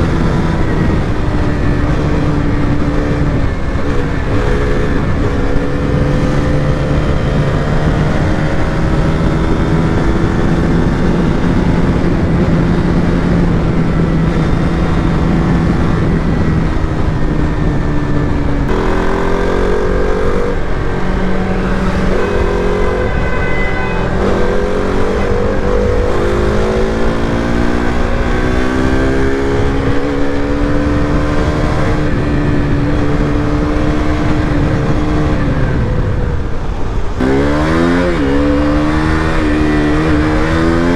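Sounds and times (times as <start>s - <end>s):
motorcycle engine running: 0.0s - 40.9s
rushing noise: 0.0s - 40.9s.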